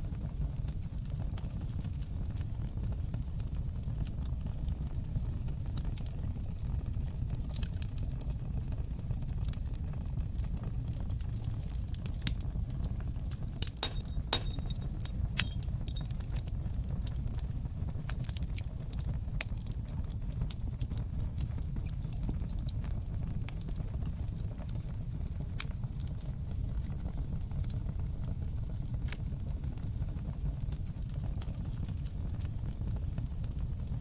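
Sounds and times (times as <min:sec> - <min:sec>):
fire crackling: 0:00.0 - 0:34.0
low rumble of flames: 0:00.0 - 0:34.0.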